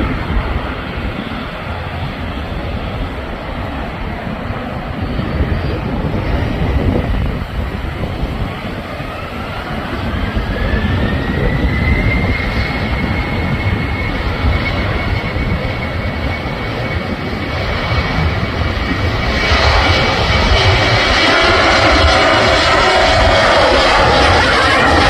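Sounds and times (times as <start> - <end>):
deep continuous rumble: 0.0 - 25.0
jet engines whining: 0.0 - 25.0.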